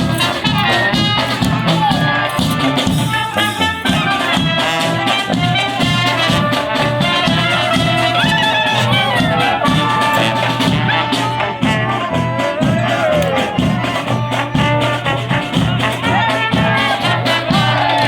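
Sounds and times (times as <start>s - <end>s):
brass band playing: 0.0s - 18.0s
steady bass beat: 0.0s - 18.0s.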